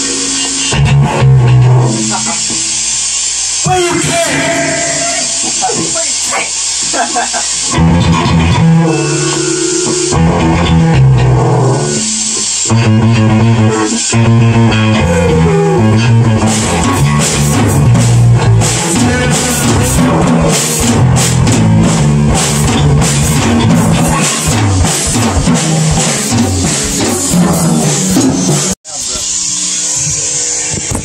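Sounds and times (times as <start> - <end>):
guitar playing low riffs: 0.0 - 6.0, 7.6 - 29.0
crashing cymbals: 0.0 - 7.8, 8.7 - 12.8, 16.4 - 31.0
rock drumming: 0.0 - 31.0.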